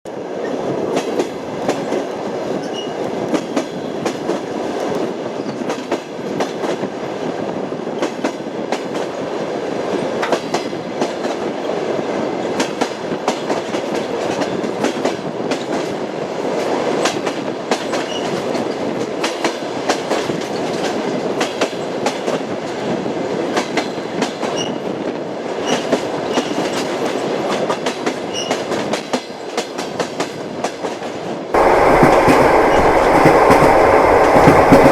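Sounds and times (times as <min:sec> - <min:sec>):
train wheels clattering on rails: 0:00.1 - 0:34.9.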